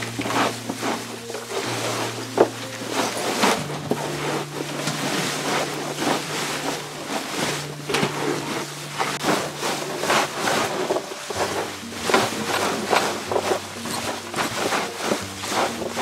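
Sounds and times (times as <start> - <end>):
leaves crunching and rustling: 0.0 - 16.0.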